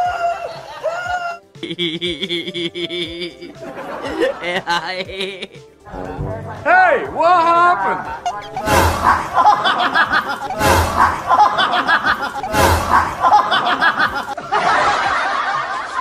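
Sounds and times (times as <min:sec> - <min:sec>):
laughter: 0:00.0 - 0:05.7, 0:08.0 - 0:16.0.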